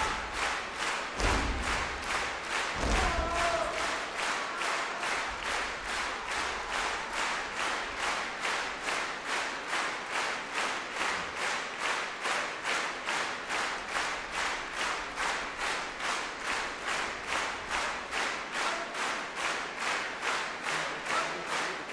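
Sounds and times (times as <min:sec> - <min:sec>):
audience clapping in unison: 0:00.0 - 0:21.9.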